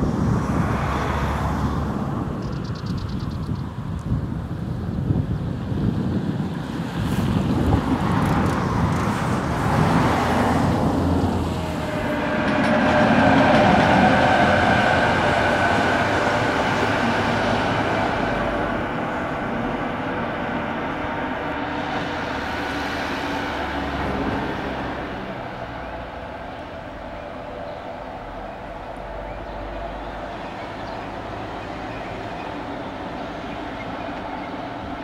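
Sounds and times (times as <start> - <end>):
wheels rumbling on rail: 0.0 - 35.0
electric locomotive whine: 5.5 - 35.0.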